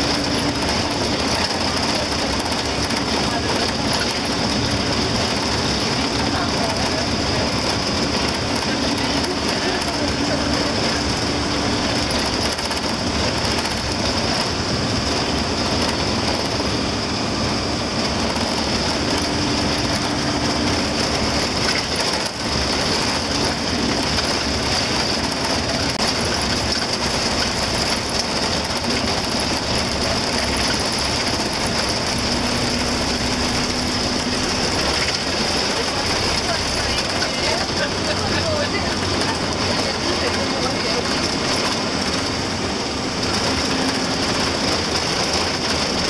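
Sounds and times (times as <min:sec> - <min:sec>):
bus engine drone: 0:00.0 - 0:46.0.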